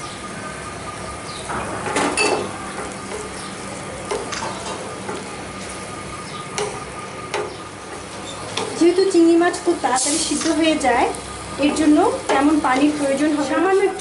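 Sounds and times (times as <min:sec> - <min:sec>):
food sizzling: 0:00.9 - 0:14.0.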